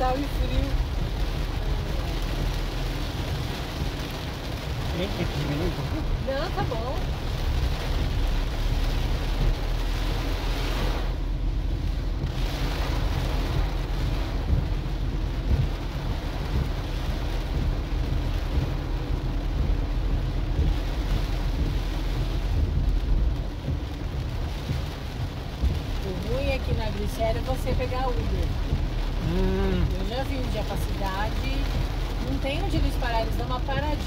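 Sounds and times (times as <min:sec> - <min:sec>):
car driving on wet road: 0:00.0 - 0:34.0
heavy rain on car roof: 0:00.0 - 0:34.0.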